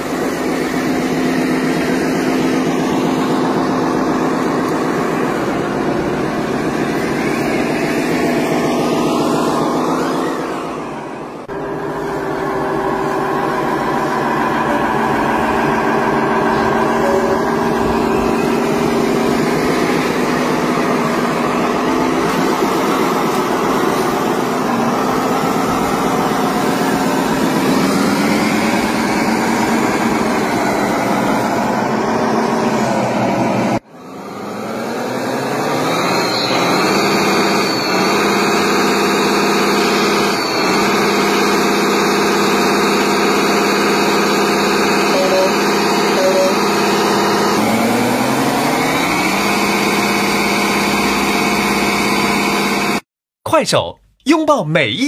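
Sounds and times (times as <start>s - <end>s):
model truck motor humming: 0.0s - 53.0s.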